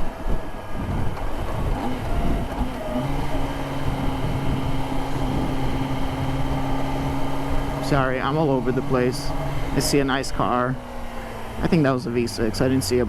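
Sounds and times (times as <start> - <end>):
wind rush on microphone: 0.0 - 11.8
motorcycle engine running: 0.0 - 13.0.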